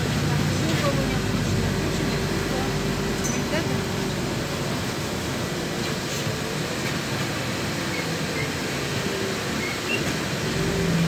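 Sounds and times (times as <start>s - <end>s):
bus drivetrain hum: 0.0s - 11.0s
road noise: 0.0s - 11.0s.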